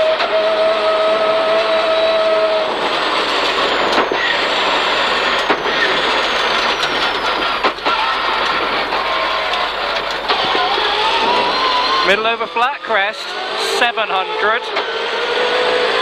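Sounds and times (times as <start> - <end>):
car engine from inside cabin: 0.0 - 16.0
road noise: 0.0 - 16.0.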